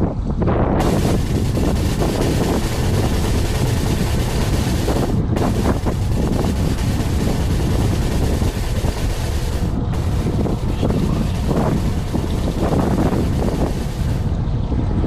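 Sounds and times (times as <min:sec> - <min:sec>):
wind buffeting microphone: 0:00.0 - 0:15.0
boat engine rumble: 0:00.2 - 0:15.0.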